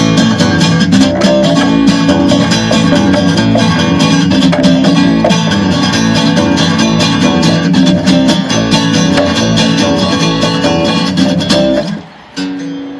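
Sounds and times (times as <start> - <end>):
plucked upright bass: 0.0 - 12.1
acoustic guitar strumming: 0.0 - 12.9.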